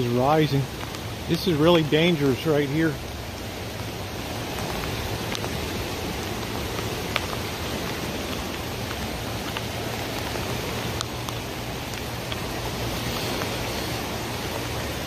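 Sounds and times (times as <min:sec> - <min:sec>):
creek rushing: 0:00.0 - 0:15.0
rain hissing: 0:00.0 - 0:15.0.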